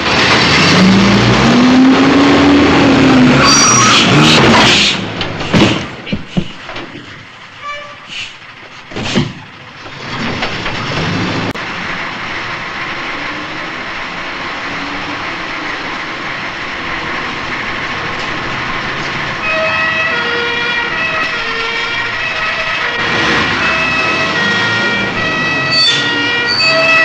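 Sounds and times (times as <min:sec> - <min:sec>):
refuse truck running: 0:00.0 - 0:27.0.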